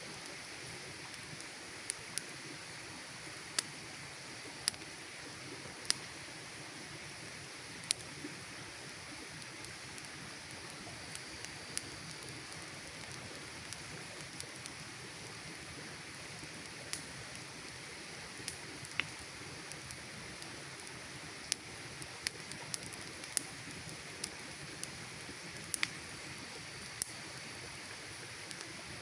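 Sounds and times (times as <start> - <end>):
campfire crackling and hissing: 0.0 - 29.0.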